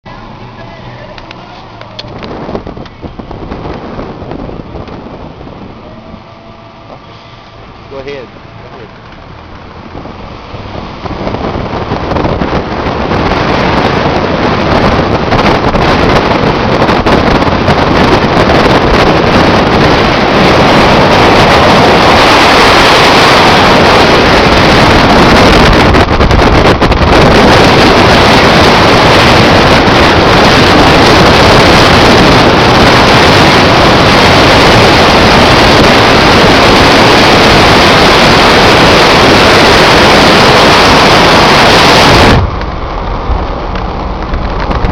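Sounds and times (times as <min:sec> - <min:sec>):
vehicle road noise: 0:00.0 - 0:44.9
wind buffeting microphone: 0:00.1 - 0:44.9.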